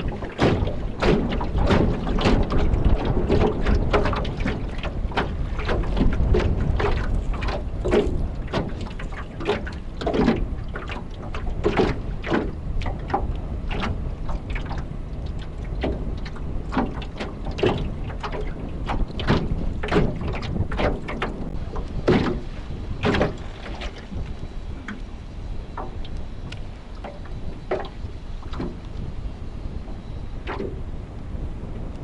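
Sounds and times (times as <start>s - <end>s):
choppy water slapping and splashing: 0.0s - 32.0s
wind buffeting microphone: 0.0s - 32.0s.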